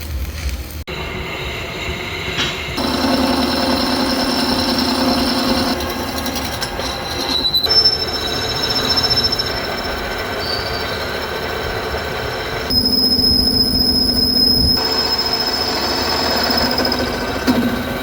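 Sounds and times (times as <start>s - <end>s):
lathe running noise: 0.9s - 18.0s
high-pitched squeal of cutting tool: 2.8s - 17.5s.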